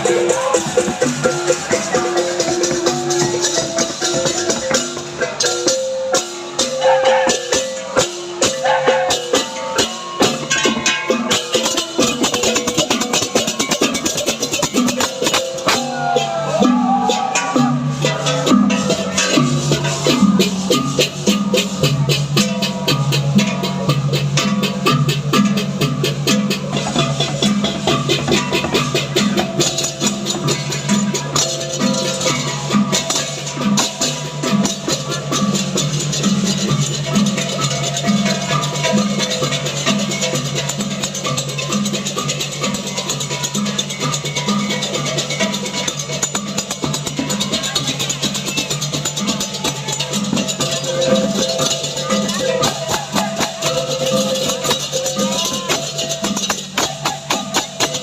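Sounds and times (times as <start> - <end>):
cymbals clashing: 0.0 - 58.0
gamelan percussion music: 0.0 - 58.0
gong and metallophone tones: 0.0 - 58.0.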